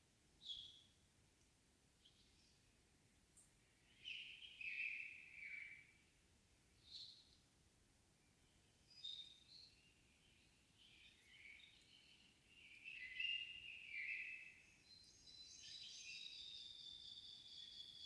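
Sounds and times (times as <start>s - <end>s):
faint songbird chirps and whistles: 0.4s - 1.0s, 2.0s - 2.7s, 3.4s - 6.2s, 6.8s - 7.5s, 8.2s - 18.0s.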